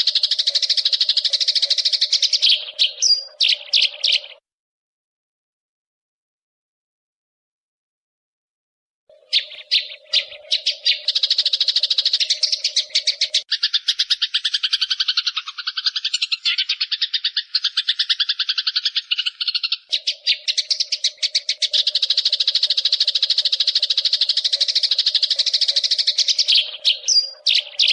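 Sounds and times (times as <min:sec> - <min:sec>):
sparrows chattering: 0:00.0 - 0:04.4, 0:09.1 - 0:27.9.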